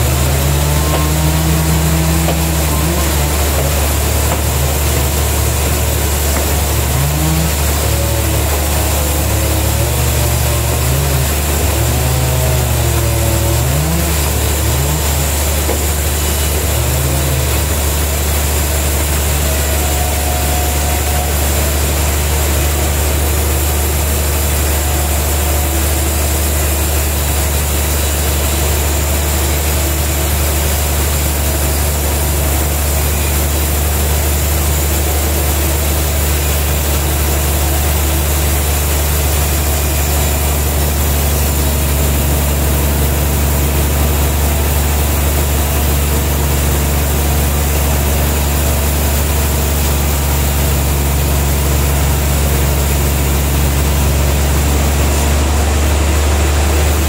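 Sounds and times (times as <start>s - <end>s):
band sawmill humming: 0.0s - 57.0s.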